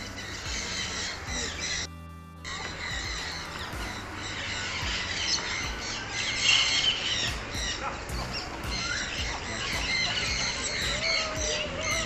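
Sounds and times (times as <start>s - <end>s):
chorus of aviary birds: 0.0s - 1.9s, 2.5s - 12.0s.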